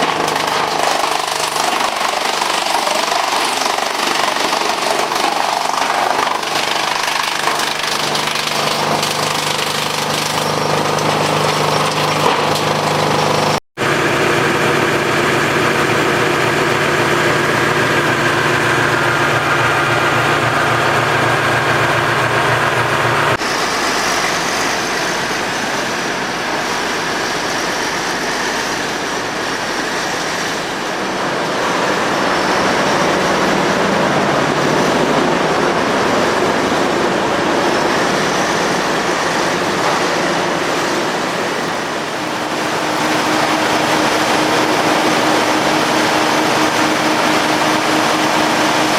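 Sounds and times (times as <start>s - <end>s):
tractor engine: 0.0s - 48.9s
wood chipper running: 0.0s - 48.9s.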